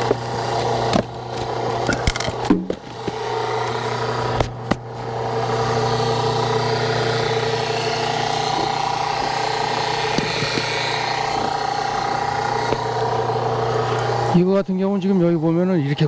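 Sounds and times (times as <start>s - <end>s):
log splitter engine running: 0.0s - 15.8s.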